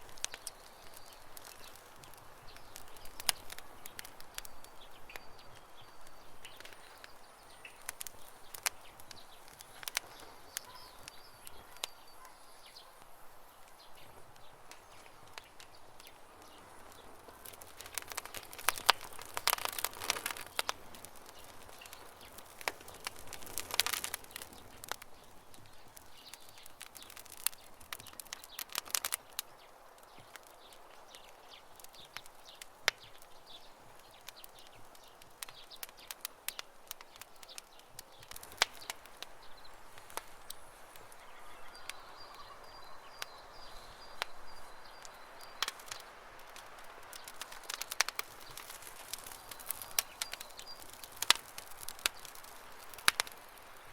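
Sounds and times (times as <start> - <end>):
campfire crackling: 0.0 - 53.9
faint bird chirping: 0.1 - 53.9.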